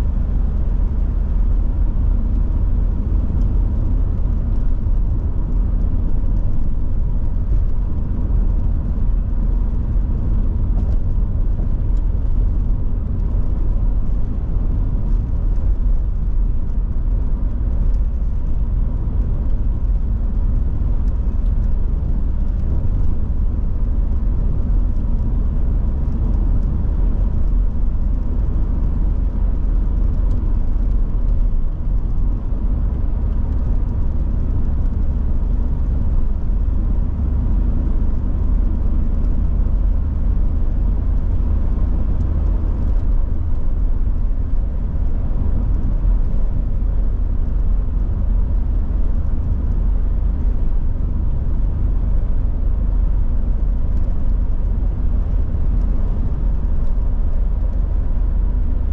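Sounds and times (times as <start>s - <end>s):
car engine and road rumble: 0.0s - 58.9s.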